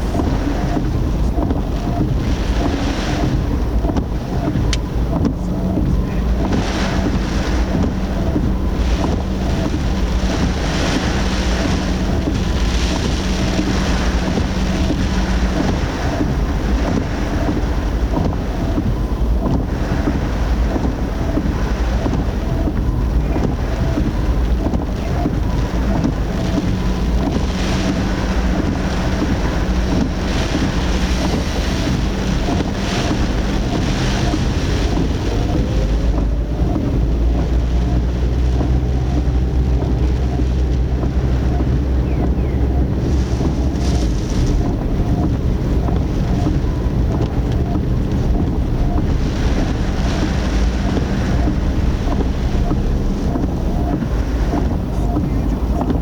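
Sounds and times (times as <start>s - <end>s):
faint regular ticking: 0.0s - 56.0s
wind and rain buffeting a car: 0.0s - 56.0s.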